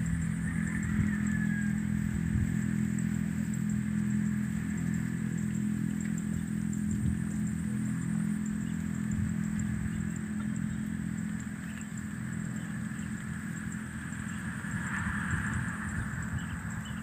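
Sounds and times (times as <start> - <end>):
small engine running: 0.0 - 17.0
wind buffeting microphone: 0.0 - 17.0.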